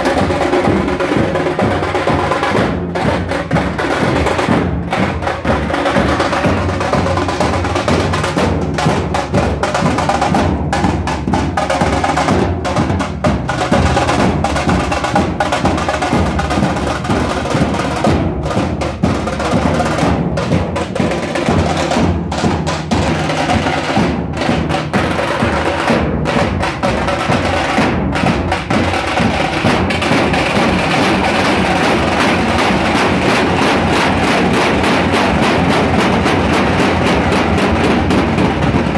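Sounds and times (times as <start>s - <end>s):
drum ensemble playing fast rhythm: 0.0s - 38.9s.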